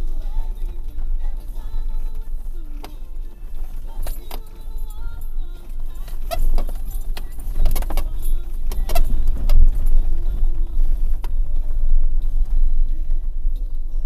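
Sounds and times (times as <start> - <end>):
vehicle rumbling: 0.0 - 14.0
clicks and rattles over bumps: 0.2 - 13.9.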